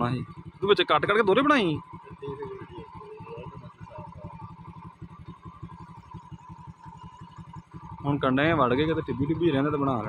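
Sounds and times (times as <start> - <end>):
small motorcycle engine running: 0.0 - 10.0.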